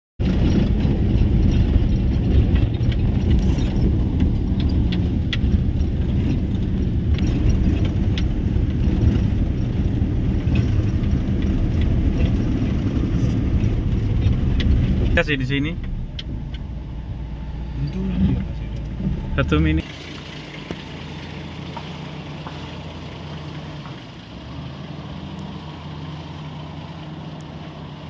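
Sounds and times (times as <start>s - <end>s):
rattles and clicks: 0.2s - 24.1s
vehicle rumble on dirt road: 0.2s - 28.0s.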